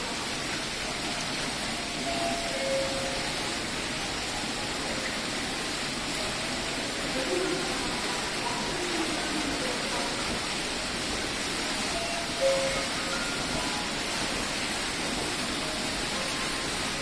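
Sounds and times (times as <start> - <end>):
water splashing down fountain: 0.0 - 17.0.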